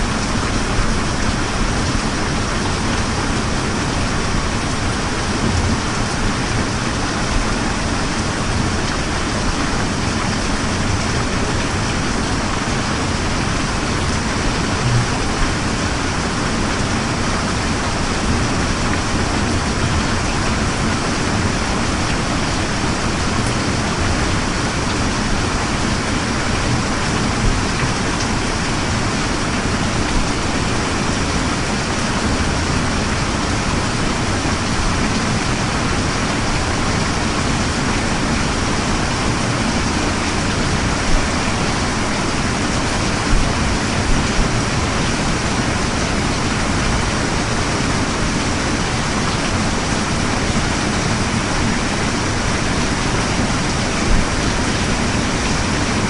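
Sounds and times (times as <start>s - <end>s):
rain spatters: 0.0s - 56.0s
steady rain falling: 0.0s - 56.0s.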